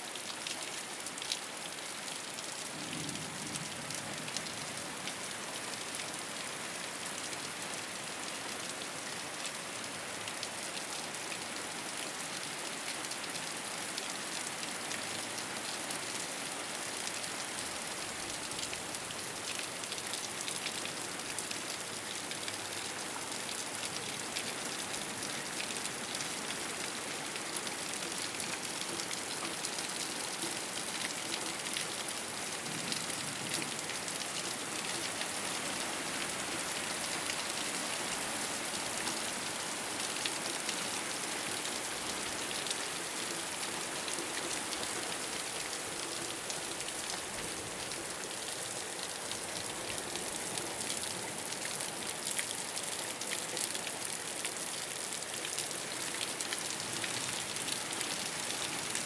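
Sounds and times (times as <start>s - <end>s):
rain pattering on a roof: 0.0s - 59.0s.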